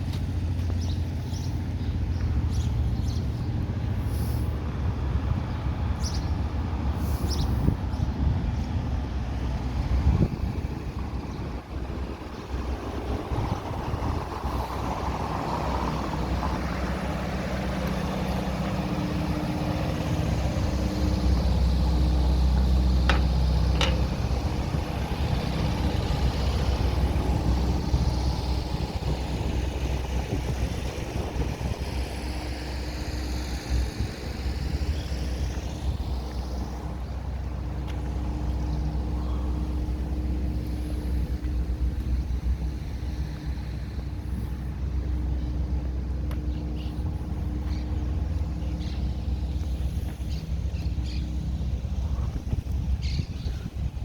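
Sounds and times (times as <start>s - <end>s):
cars passing: 0.0s - 54.0s
low engine rumble: 0.0s - 54.0s.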